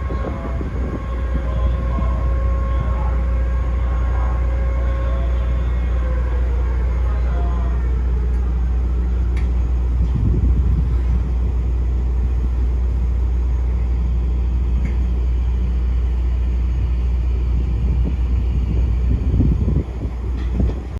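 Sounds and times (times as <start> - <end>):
ship engines rumbling: 0.0 - 20.9.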